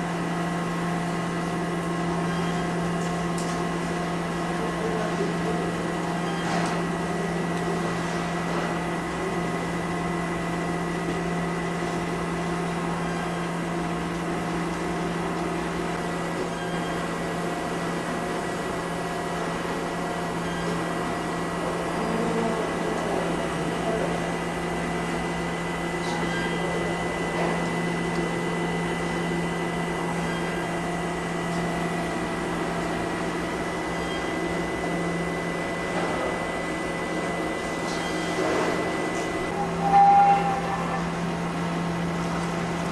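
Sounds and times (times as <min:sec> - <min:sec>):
machine motors humming: 0:00.0 - 0:42.9.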